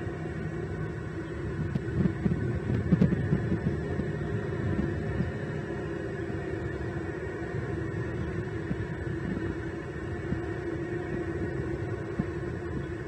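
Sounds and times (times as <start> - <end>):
low microphone hum and rumble: 0.0 - 13.0.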